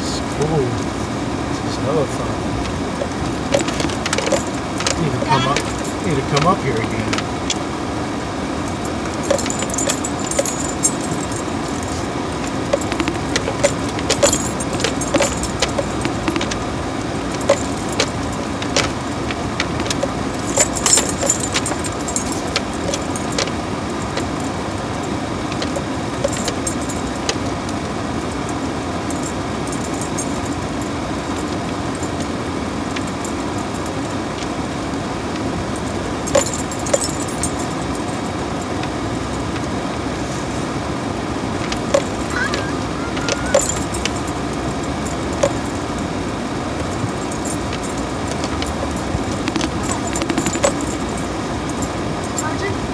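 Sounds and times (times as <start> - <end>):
road and engine rumble: 0.0 - 52.9
loose things rattling in cab: 2.2 - 7.8, 8.6 - 40.8, 41.5 - 52.9.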